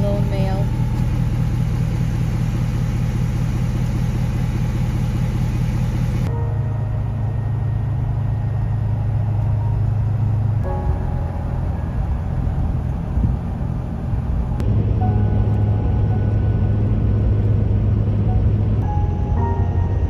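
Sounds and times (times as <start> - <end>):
engine and road drone in cab: 0.0 - 20.0.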